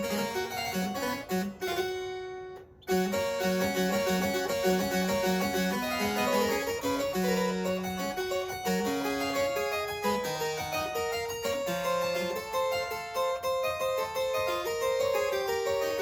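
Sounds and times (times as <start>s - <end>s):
harpsichord playing: 0.0s - 16.0s.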